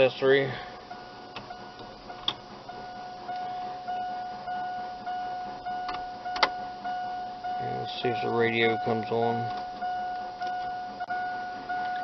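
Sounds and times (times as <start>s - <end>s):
electronic warning beeps: 0.8s - 12.0s.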